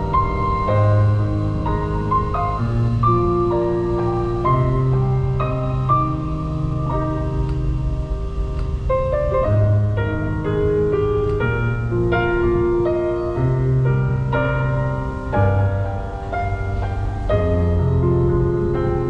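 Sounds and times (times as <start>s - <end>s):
low bass notes and chords: 0.0s - 19.0s
piano melody: 0.0s - 19.0s.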